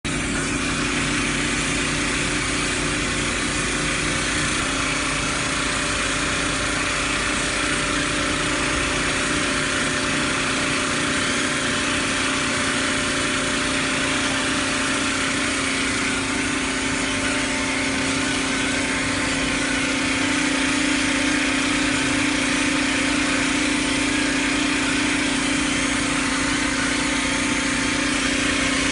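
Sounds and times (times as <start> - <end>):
machine hum: 0.1 - 28.9
compressed air gun hissing: 0.2 - 28.9.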